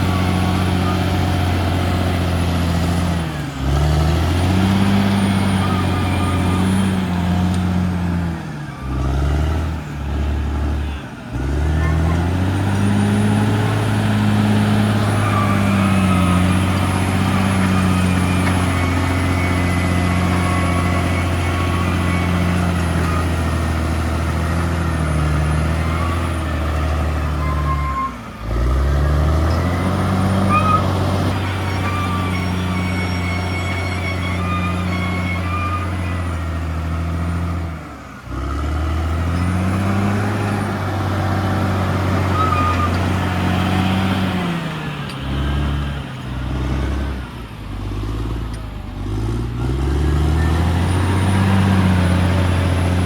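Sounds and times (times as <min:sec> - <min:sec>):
bulldozer diesel engine under load: 0:00.0 - 0:53.0.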